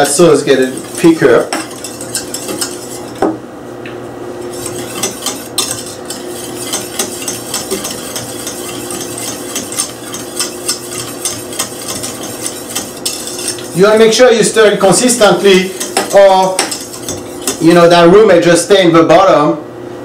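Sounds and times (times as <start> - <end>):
whisk scraping saucepan: 0.0 - 3.4, 4.2 - 18.6
steady low hum: 0.0 - 19.7.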